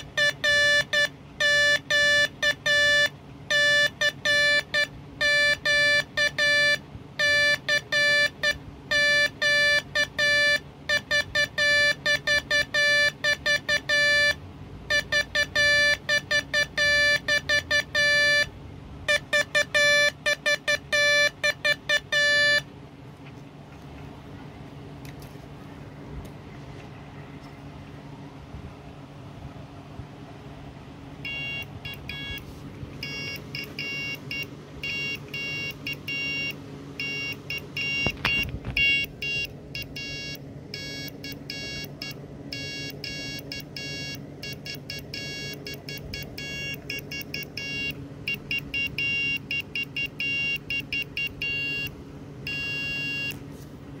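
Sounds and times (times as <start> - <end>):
buzzer beeping morse code: 0.0 - 22.7, 31.2 - 53.4.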